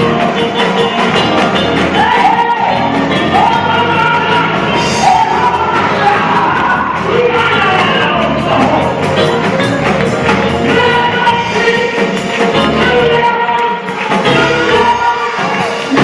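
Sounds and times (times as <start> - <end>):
gospel church music: 0.0 - 16.0
person singing long notes: 1.9 - 9.4, 10.4 - 16.0.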